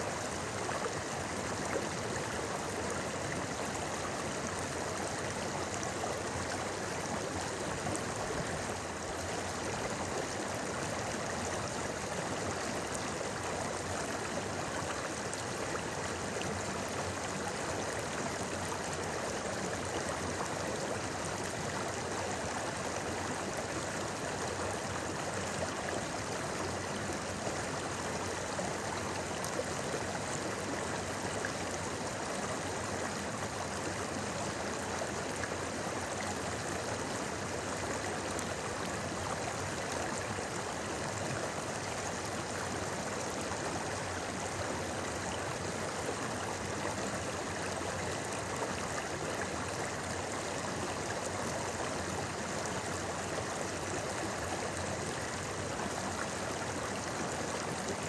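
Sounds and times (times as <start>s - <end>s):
river water babbling over rocks: 0.0s - 58.0s.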